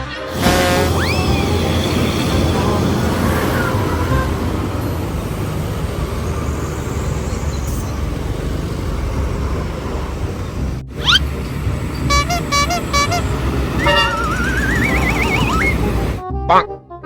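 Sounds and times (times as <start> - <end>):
large vehicle engines rumbling: 0.0 - 16.2
tyre and road noise: 0.0 - 16.2.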